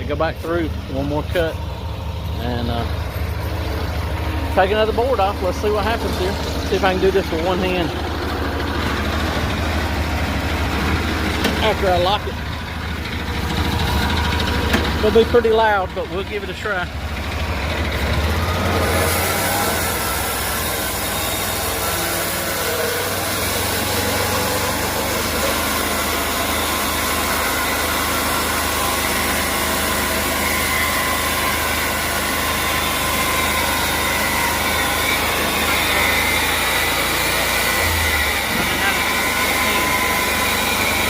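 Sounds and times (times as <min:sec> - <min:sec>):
sawmill sawing a board: 0:00.0 - 0:41.0.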